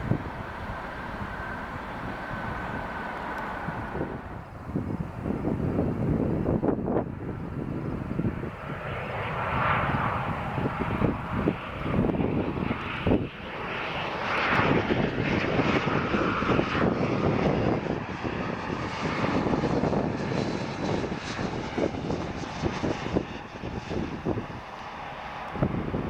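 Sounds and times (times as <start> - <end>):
jet engines running: 0.0 - 26.0
wind buffeting microphone: 0.0 - 26.0.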